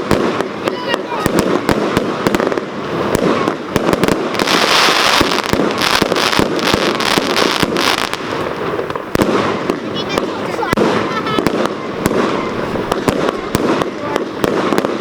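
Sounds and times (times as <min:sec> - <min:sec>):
firework cake shots and bangs: 0:00.0 - 0:15.0
firework crackling hiss: 0:00.0 - 0:15.0.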